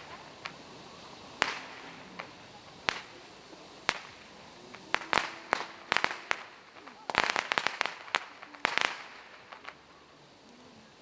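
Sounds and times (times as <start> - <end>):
faint steady hiss: 0.0 - 11.0
firework pops: 0.0 - 11.0.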